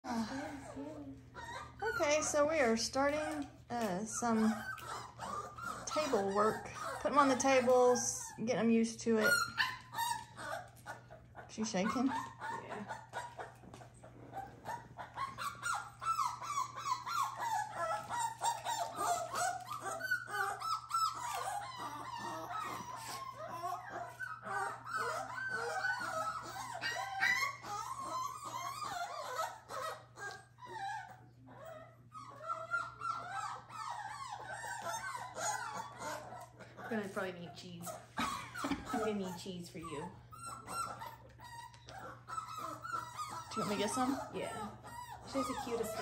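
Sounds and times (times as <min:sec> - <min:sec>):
puppy whining and crying: 0:00.0 - 0:46.0.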